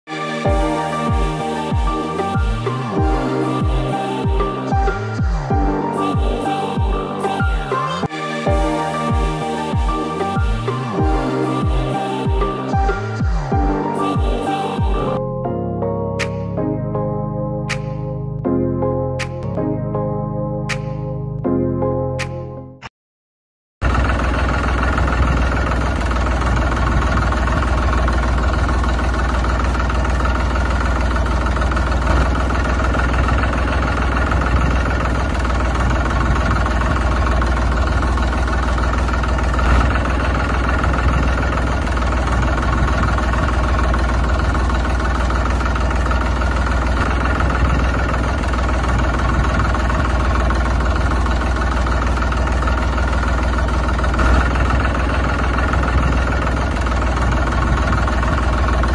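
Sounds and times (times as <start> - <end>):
engine idling: 0.4 - 15.2, 23.8 - 58.9.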